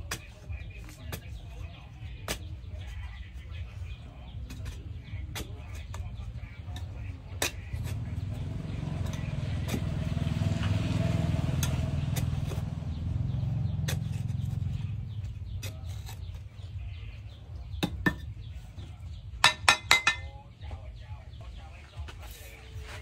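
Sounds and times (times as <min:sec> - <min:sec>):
low motor rumble: 0:00.0 - 0:19.4.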